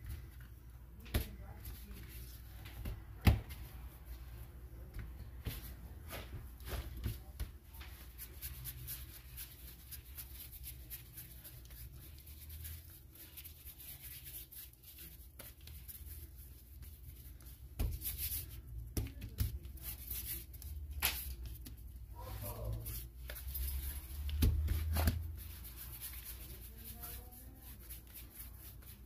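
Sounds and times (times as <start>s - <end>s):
hands rubbing and patting dough: 0.0s - 29.0s.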